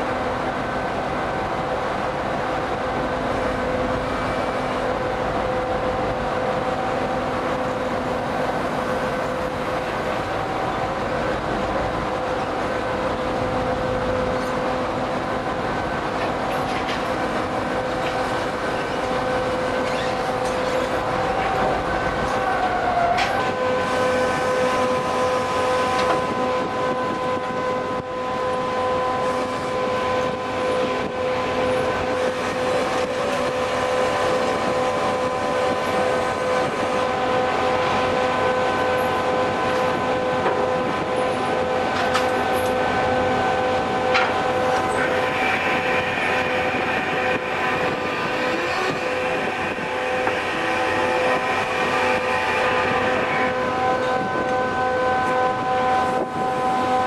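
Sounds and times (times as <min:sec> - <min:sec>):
deck machinery whine: 0:00.0 - 0:57.0
rushing noise: 0:00.0 - 0:57.0
higher whine: 0:03.6 - 0:57.0.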